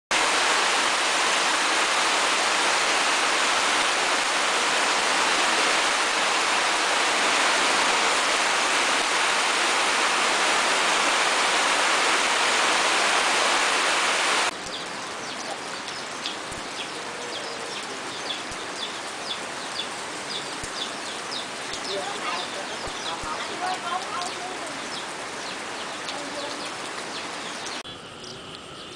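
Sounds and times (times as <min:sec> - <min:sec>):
heavy rain pouring: 0:00.1 - 0:28.8.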